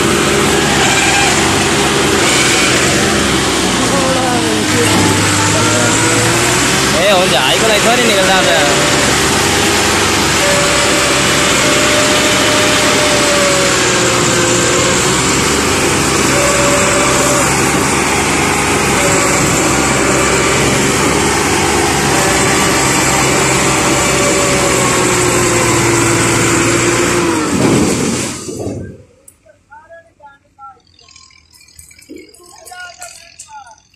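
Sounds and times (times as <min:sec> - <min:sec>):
tractor diesel engine straining: 0:00.0 - 0:33.9.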